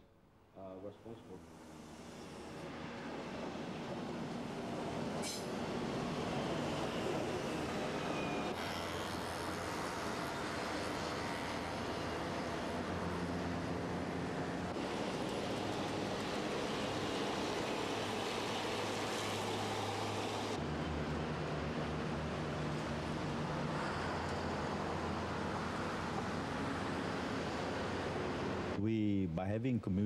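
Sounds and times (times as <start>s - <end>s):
electric train rumble and hum: 1.3s - 28.8s.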